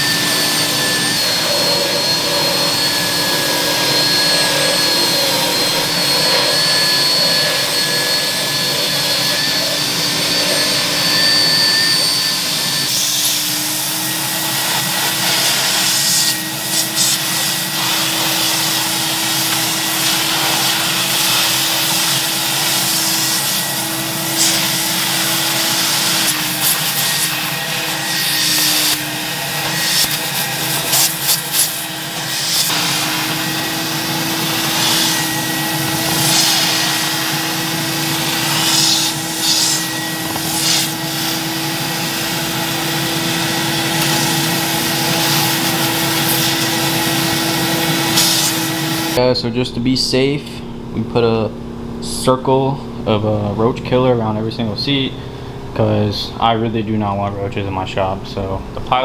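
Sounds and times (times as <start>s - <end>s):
vacuum motor running: 0.0s - 49.4s
drill scrub brush whining: 0.0s - 49.6s.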